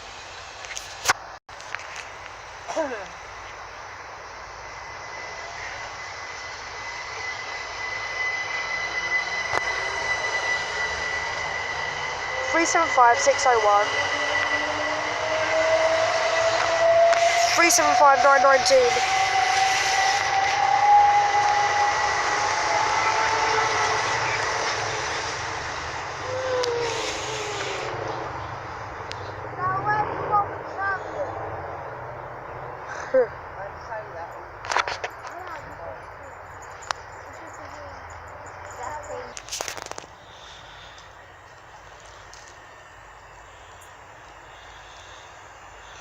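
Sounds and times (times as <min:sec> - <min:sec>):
train high whine: 0:00.0 - 0:46.0
wheel-on-rail noise: 0:00.0 - 0:46.0
train rushing rumble: 0:01.2 - 0:46.0.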